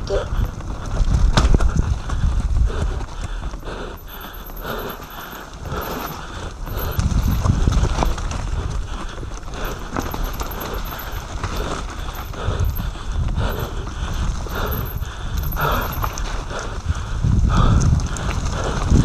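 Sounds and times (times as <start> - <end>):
bike chain and frame rattling: 0.0 - 19.0
bike tyres rolling over dirt: 0.0 - 19.0
wind rumble on microphone: 0.0 - 19.0.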